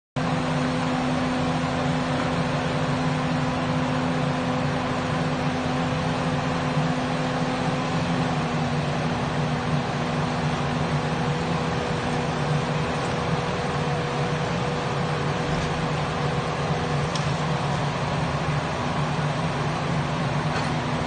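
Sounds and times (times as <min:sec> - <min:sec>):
demolition machinery droning: 0:00.2 - 0:21.0.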